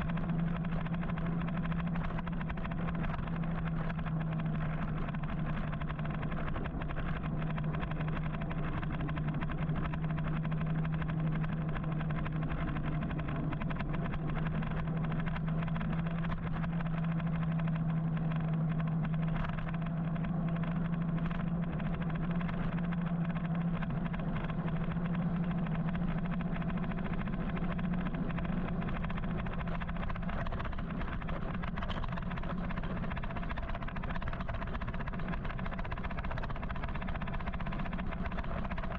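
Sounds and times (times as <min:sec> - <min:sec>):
electric motorcycle hum: 0:00.0 - 0:38.9.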